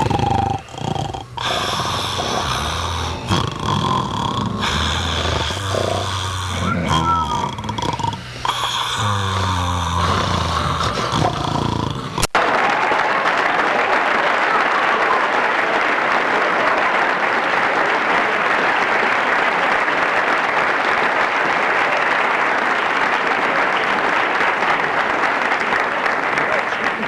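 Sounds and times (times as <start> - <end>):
large crowd applauding: 0.0 - 27.0.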